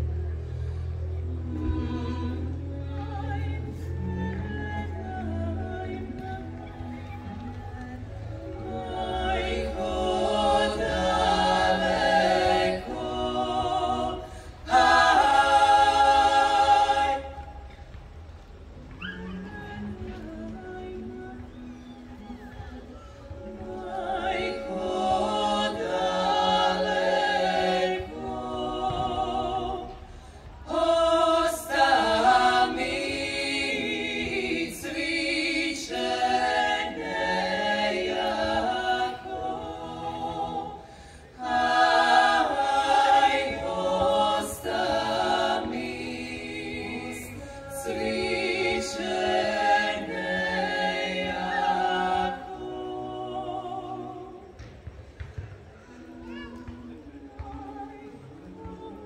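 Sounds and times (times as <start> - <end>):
women singing in harmony: 0.0 - 59.0.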